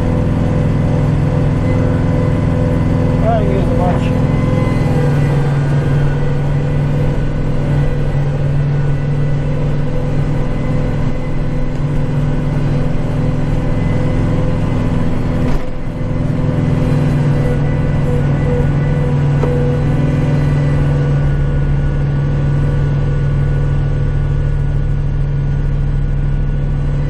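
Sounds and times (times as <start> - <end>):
tractor and snowblower droning: 0.0 - 27.0.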